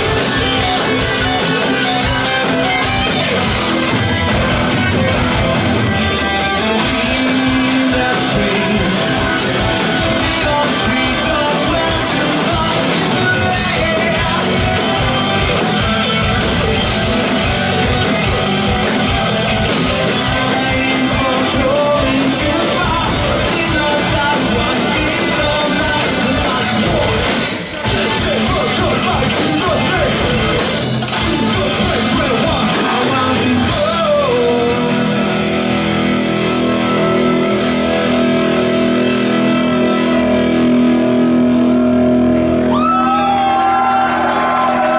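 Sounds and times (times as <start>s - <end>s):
drums: 0.0s - 44.9s
electric guitars: 0.0s - 44.9s.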